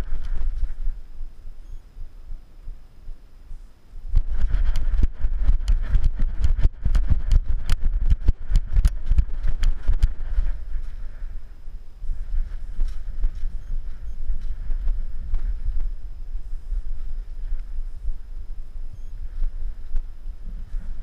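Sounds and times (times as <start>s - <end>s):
low rumble: 4.1s - 21.0s.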